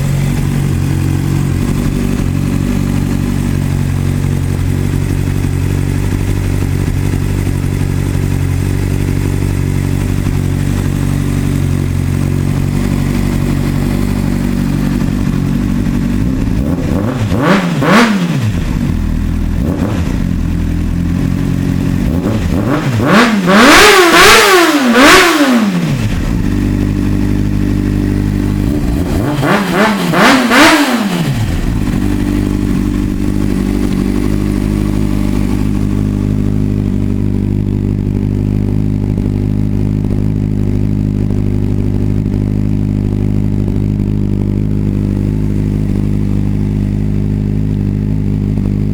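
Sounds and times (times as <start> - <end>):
motorcycle engine idling and revving: 0.0 - 48.9.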